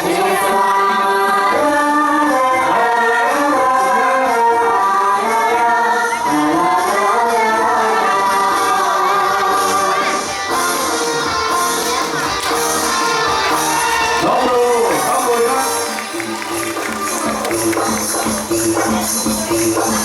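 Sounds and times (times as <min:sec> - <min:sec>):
accompanying ensemble: 0:00.0 - 0:20.0.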